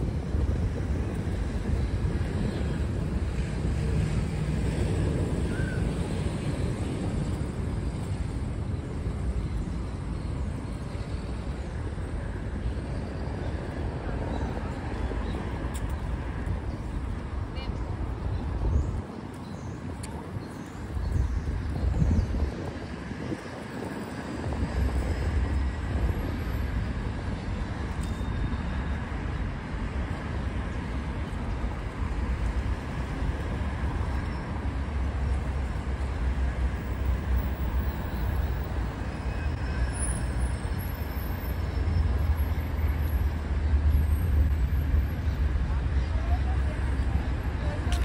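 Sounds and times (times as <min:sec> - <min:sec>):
city road traffic: 0:00.0 - 0:48.0.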